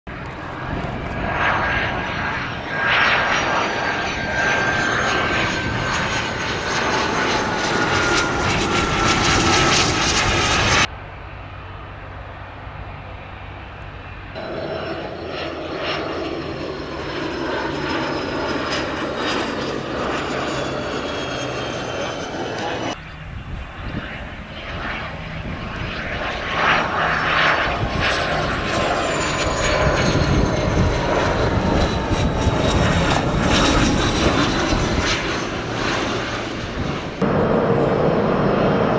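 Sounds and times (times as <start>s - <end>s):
jet engine rush with whistling: 0.1s - 38.9s.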